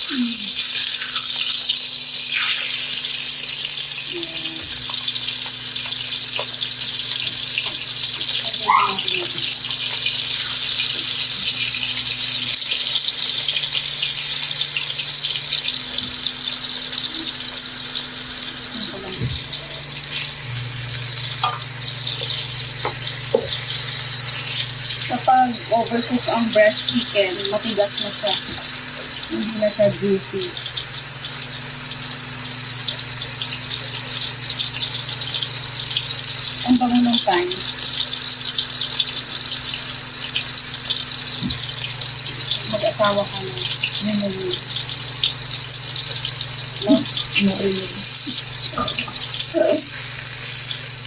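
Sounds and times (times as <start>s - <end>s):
chicken sizzling in hot oil: 0.0s - 51.0s.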